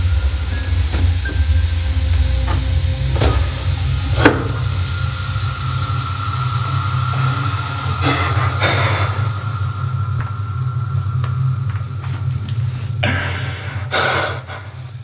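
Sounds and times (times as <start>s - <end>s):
thin high tone: 0.0s - 13.8s
constant hiss: 0.0s - 15.0s
loud low drone: 0.0s - 15.0s.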